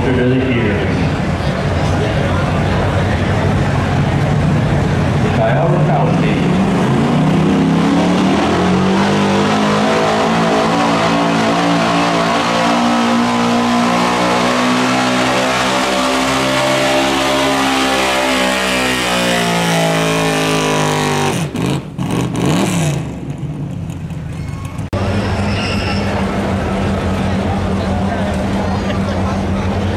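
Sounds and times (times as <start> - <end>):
quieter engine: 0.0 - 29.9
truck engine at full throttle: 0.0 - 29.9.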